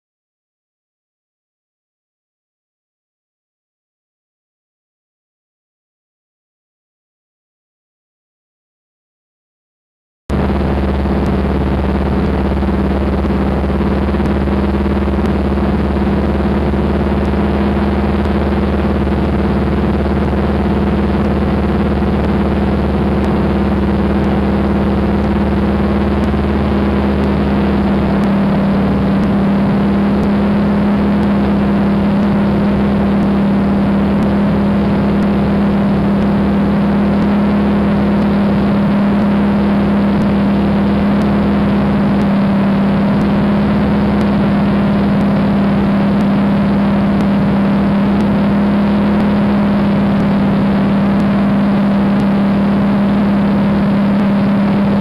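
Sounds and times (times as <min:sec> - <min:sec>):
radial aircraft engine drone: 0:10.3 - 0:55.0.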